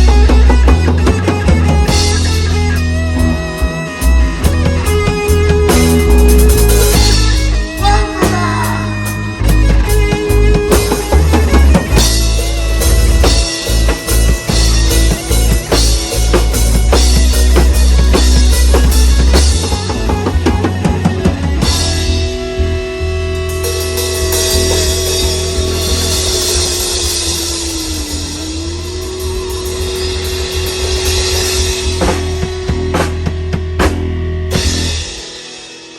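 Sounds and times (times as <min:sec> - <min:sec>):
bass guitar: 0:00.0 - 0:35.9
drum kit: 0:00.0 - 0:35.9
electric guitar: 0:00.0 - 0:35.9
rock band playing: 0:00.0 - 0:35.9.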